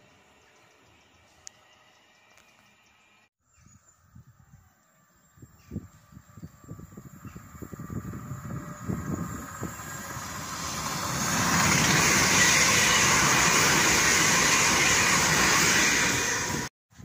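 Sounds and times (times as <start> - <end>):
train passing at speed: 0.0 - 3.3, 6.0 - 16.7.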